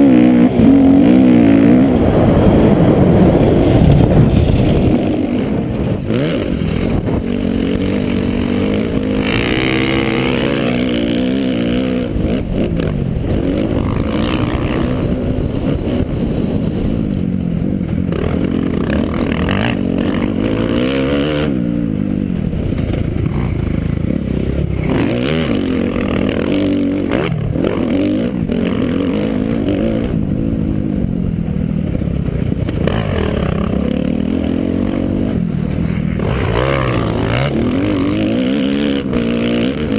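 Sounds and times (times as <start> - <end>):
dirt bike engine revving: 0.0 - 31.3, 32.1 - 39.9.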